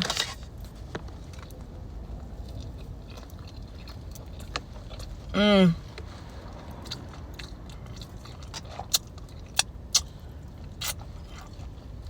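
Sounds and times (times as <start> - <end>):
close-mouthed chewing: 0.1 - 12.0
steady low rumble: 0.3 - 12.0.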